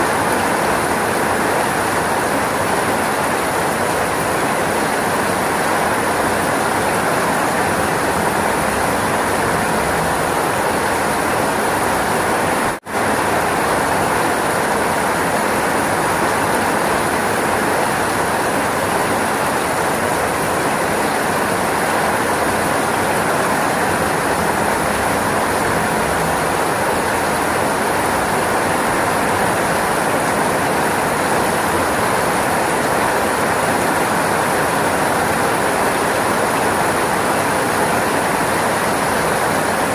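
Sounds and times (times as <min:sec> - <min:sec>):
heavy rainfall hiss: 0:00.0 - 0:39.9.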